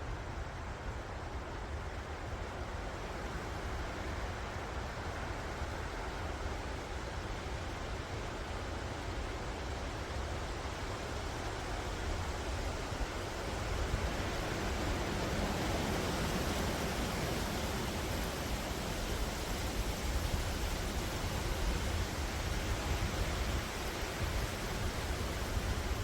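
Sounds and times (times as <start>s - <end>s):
wind through forest trees: 0.0s - 26.0s.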